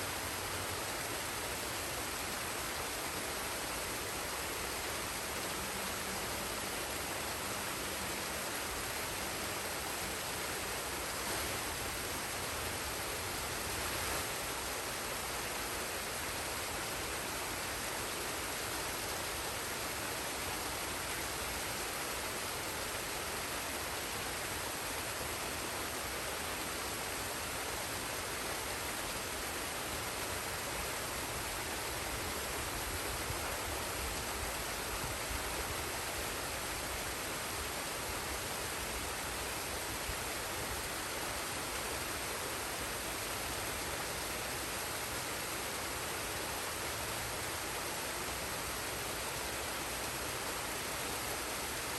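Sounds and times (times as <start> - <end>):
water rushing and splashing: 0.0 - 51.9.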